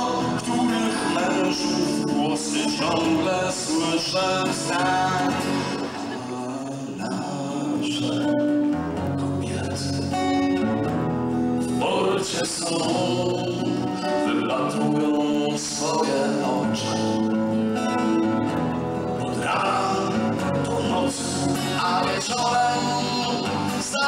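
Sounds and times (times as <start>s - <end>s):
man singing: 0.0s - 10.6s, 11.6s - 17.4s, 19.2s - 24.0s
strummed acoustic guitar: 0.0s - 24.0s.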